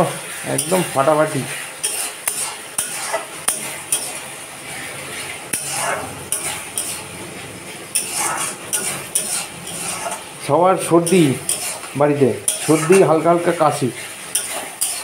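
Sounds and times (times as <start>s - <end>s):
faint sizzle: 0.0s - 15.0s
metal spatula scraping a pan: 0.4s - 15.0s.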